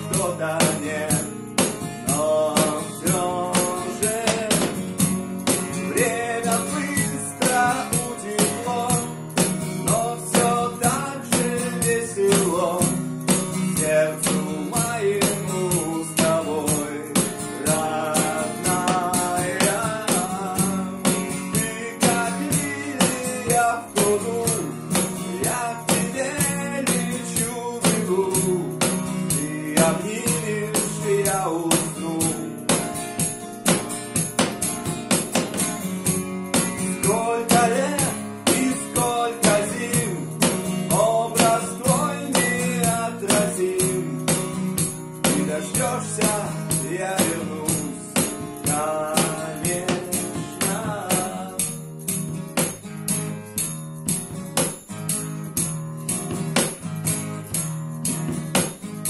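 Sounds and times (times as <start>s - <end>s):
cajon beat: 0.0s - 59.0s
strummed acoustic guitar: 0.0s - 59.0s.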